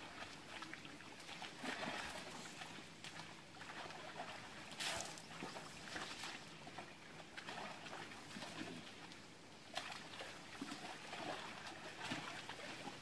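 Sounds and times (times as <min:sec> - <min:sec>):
faint outdoor bush ambience: 0:00.0 - 0:13.0.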